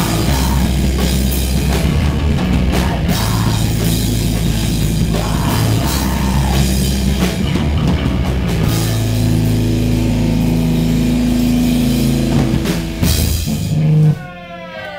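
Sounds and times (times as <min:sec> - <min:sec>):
drum kit with crashing cymbals: 0:00.0 - 0:14.2
distorted electric guitar chords: 0:00.0 - 0:14.3.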